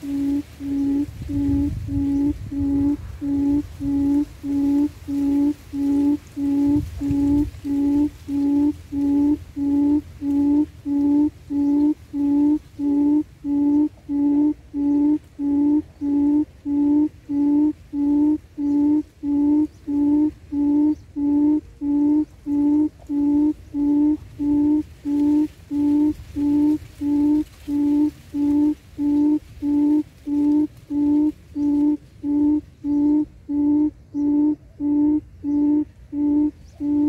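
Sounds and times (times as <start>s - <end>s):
low hooting lure call: 0.0s - 37.0s.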